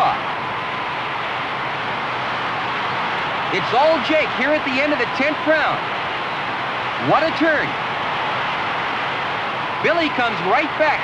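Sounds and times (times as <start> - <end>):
crowd roaring: 0.0 - 11.0.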